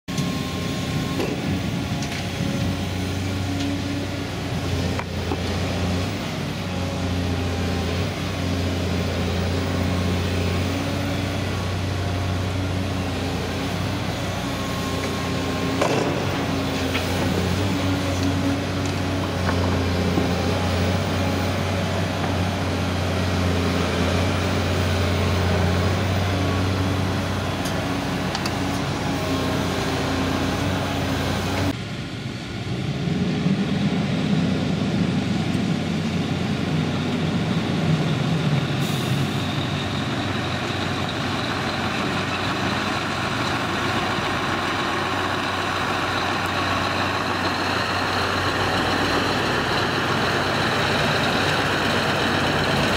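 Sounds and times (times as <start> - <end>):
excavator engine and hydraulics: 0.1 - 52.9
truck engine pulling away: 0.1 - 52.9.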